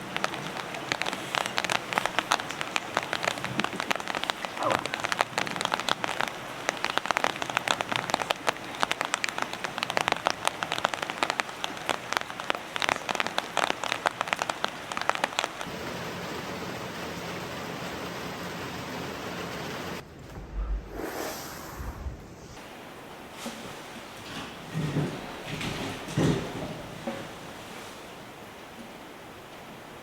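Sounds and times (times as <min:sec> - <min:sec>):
heavy rain on a hut roof: 0:00.0 - 0:20.0, 0:22.6 - 0:30.0.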